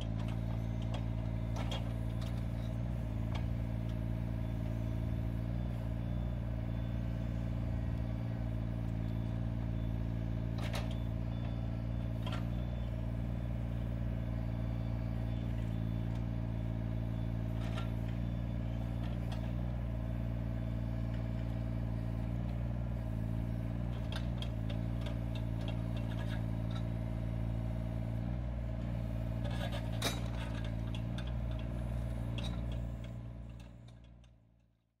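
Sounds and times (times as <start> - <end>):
mini excavator diesel engine: 0.0 - 35.0.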